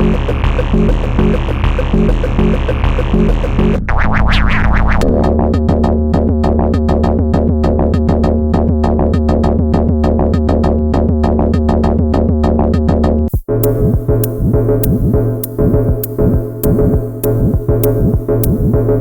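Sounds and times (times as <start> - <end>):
electronic drum pattern: 0.0 - 3.8, 4.6 - 19.0
steady bass tone: 0.0 - 19.0.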